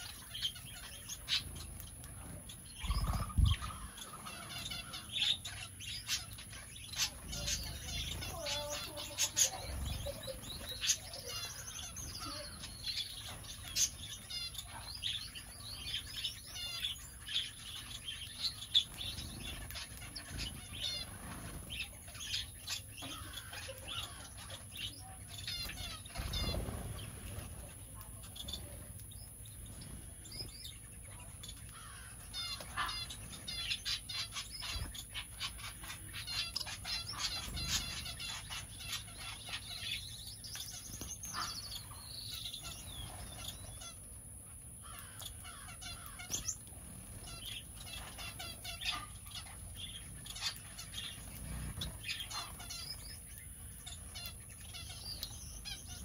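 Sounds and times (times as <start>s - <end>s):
small birds chirping: 0.0s - 56.0s
wings fluttering: 0.0s - 56.0s.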